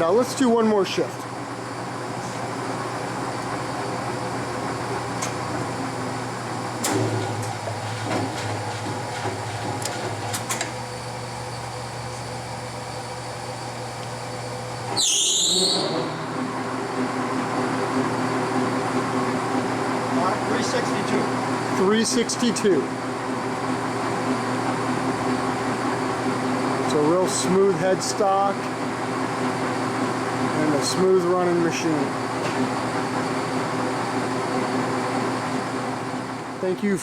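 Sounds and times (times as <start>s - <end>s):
lathe headstock running: 0.5s - 36.7s.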